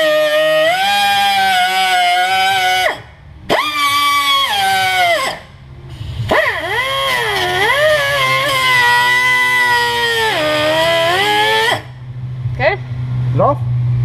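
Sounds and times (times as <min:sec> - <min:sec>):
pneumatic cut-off wheel cutting metal: 0:00.0 - 0:12.0.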